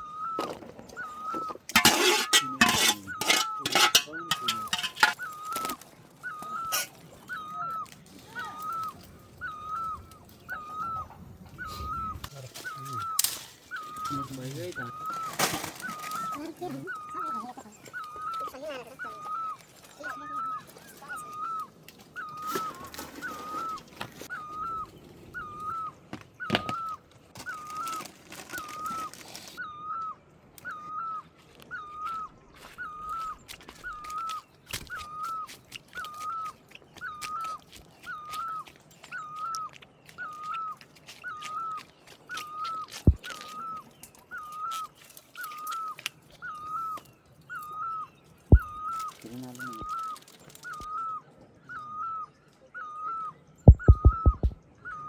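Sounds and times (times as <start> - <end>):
bird whistled call: 0.0 - 3.4, 5.2 - 55.0.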